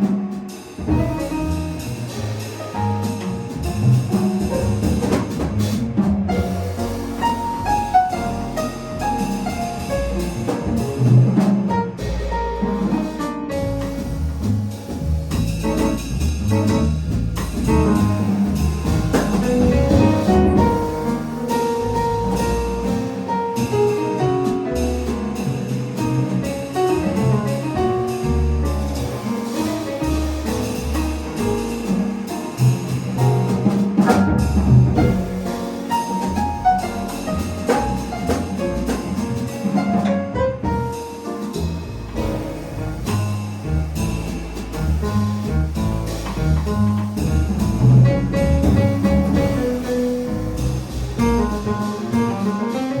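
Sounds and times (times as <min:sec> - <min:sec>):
piano chords: 0:00.0 - 0:53.0
bass line: 0:00.8 - 0:53.0.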